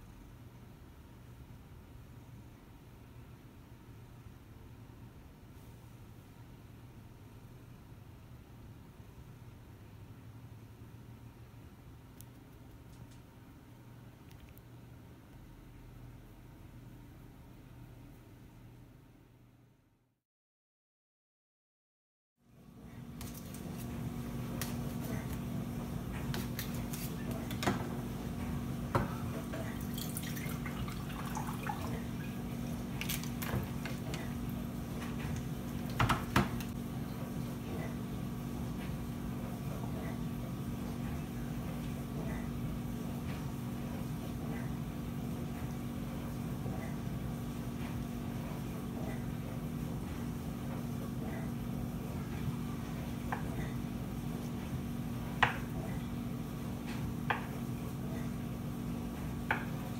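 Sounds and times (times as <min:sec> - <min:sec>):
low steady hum: 0:00.0 - 0:20.2, 0:22.4 - 0:59.9.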